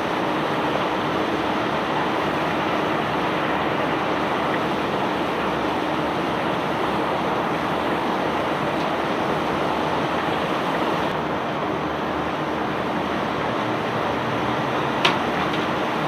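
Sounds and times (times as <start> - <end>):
faint machine hum: 0.0 - 16.0.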